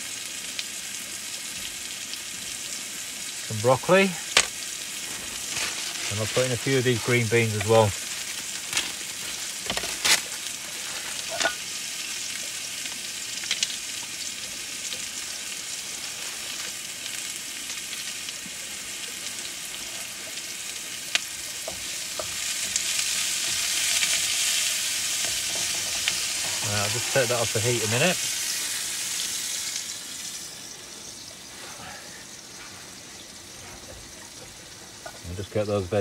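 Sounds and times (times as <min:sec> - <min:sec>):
mushrooms sizzling in a pan: 0:00.0 - 0:36.0.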